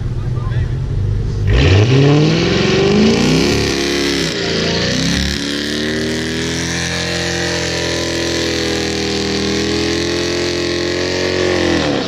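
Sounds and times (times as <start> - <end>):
car engine revving high: 0.9 - 12.0.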